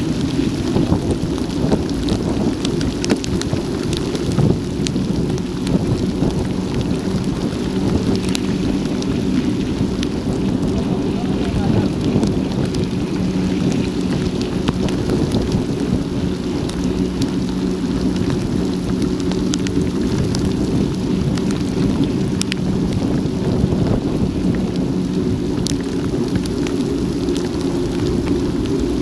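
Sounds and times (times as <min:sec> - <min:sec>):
low rush of riding: 0:00.0 - 0:29.0
rain drops ticking on camera: 0:00.0 - 0:29.0.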